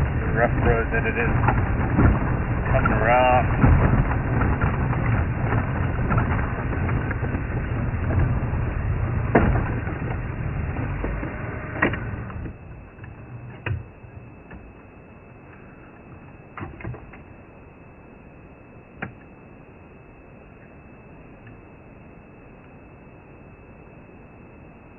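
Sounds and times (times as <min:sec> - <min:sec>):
vehicle rumbling off-road: 0:00.0 - 0:23.9.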